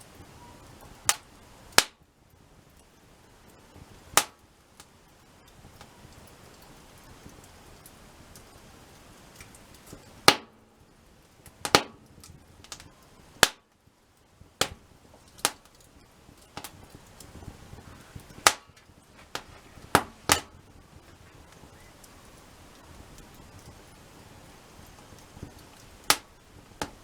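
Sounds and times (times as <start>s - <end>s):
faint steady hiss: 0.0s - 27.0s
wood fire crackling and popping: 0.0s - 27.0s.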